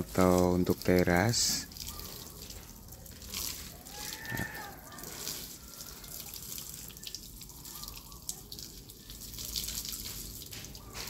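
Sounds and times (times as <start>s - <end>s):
water drips and spatters: 0.0s - 11.0s
water splashing onto concrete: 0.0s - 11.0s.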